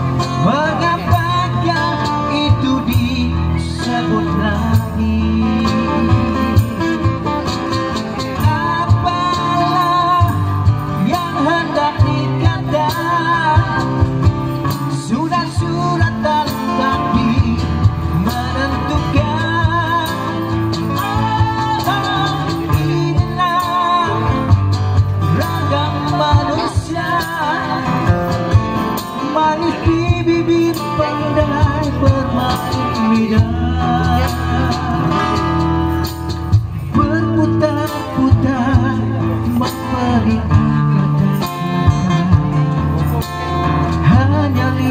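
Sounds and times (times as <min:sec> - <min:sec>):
box drum beat: 0:00.0 - 0:44.9
man singing with vibrato: 0:00.0 - 0:44.9
strummed acoustic guitars: 0:00.0 - 0:44.9.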